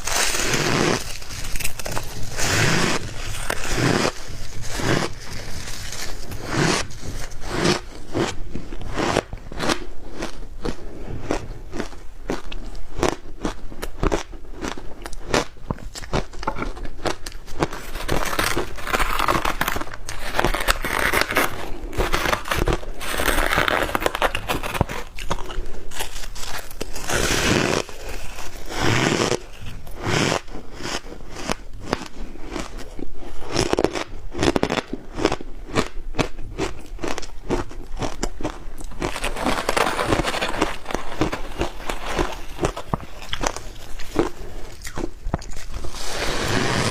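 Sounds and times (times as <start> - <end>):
ice crunching between teeth: 0.0 - 46.9.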